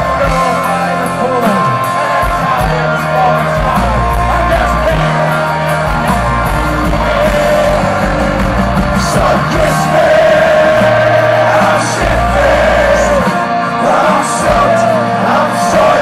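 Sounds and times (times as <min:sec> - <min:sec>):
live punk band: 0:00.0 - 0:16.0
person singing: 0:00.0 - 0:16.0.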